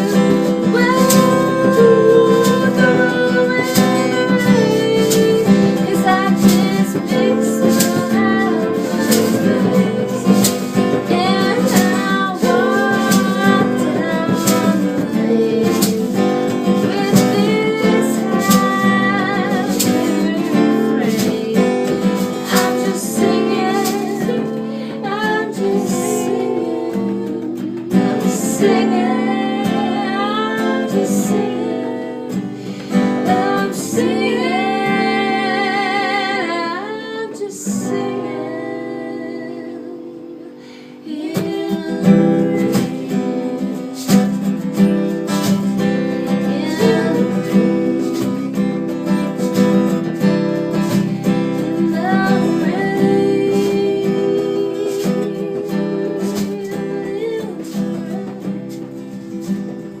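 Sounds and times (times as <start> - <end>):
acoustic guitar: 0.0 - 60.0
person singing: 0.0 - 60.0.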